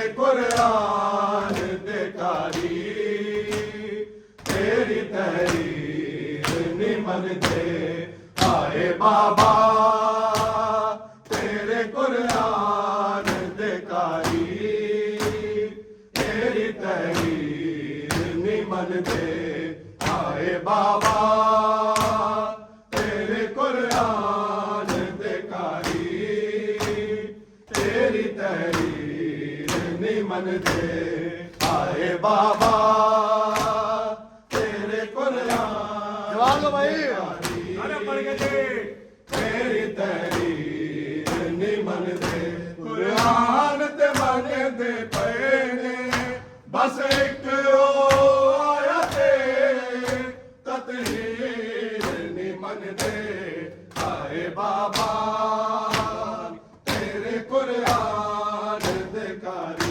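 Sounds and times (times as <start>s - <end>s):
hands slapping chests: 0.0s - 59.9s
voices chanting: 0.0s - 59.9s.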